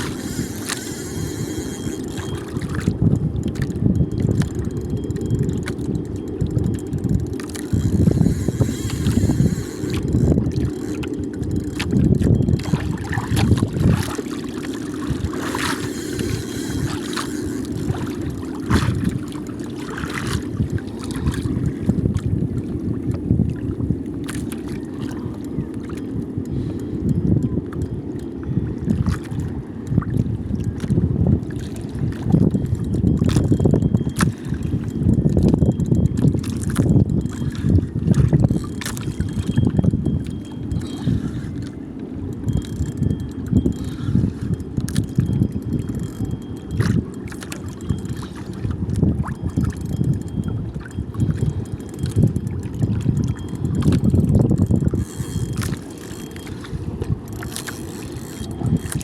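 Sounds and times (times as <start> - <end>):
water sloshing around boat: 0.0 - 59.0
wind rumbling on microphone: 0.0 - 59.0.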